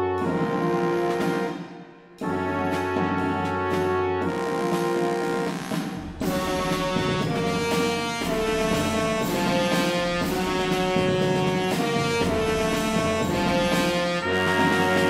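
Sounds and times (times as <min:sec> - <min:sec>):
upbeat instrumental music with brass: 0:00.0 - 0:15.0.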